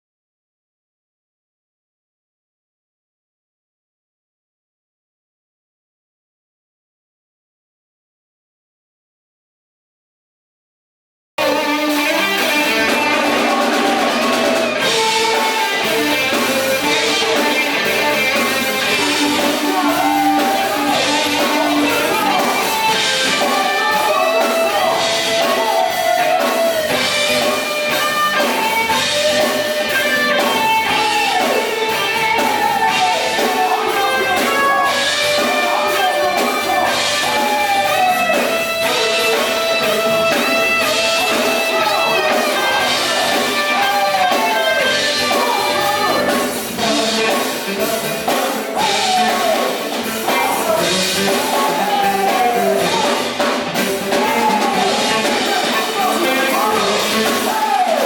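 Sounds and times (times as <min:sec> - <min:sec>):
drums: 0:11.4 - 0:58.0
gospel band playing: 0:11.4 - 0:58.0.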